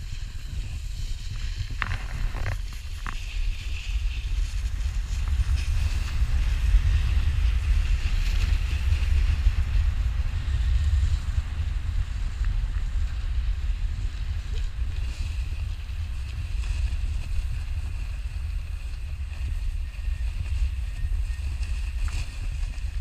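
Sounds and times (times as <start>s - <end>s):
snowboard sliding over snow: 0.0s - 23.0s
wind rumbling on microphone: 0.0s - 23.0s.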